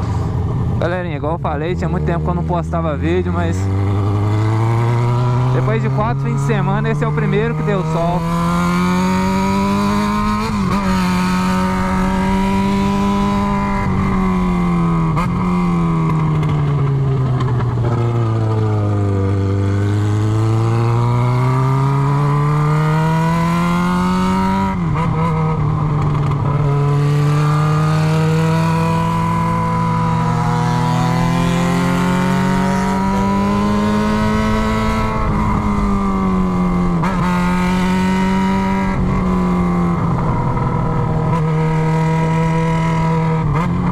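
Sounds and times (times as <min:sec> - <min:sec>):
motorcycle engine revving: 0:00.0 - 0:43.9
rushing wind noise: 0:08.2 - 0:43.9.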